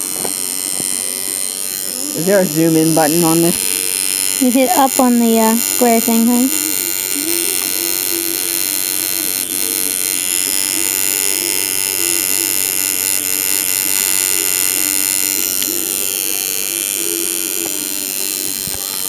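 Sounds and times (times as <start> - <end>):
tattoo machine buzzing: 0.0 - 19.0.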